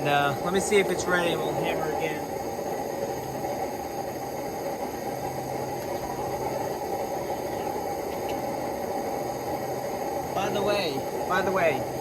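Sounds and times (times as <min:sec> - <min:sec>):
forge burner roaring: 0:00.0 - 0:12.0.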